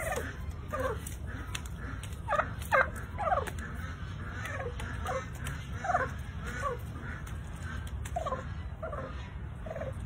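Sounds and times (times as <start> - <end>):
turkeys calling: 0.0 - 10.0.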